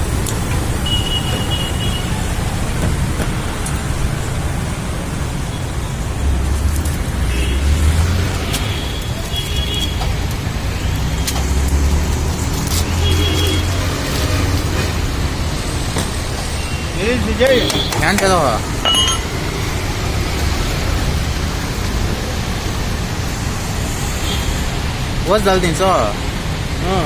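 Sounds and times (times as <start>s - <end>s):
street traffic rumble: 0.0s - 27.0s
vehicles passing close by: 0.0s - 27.0s.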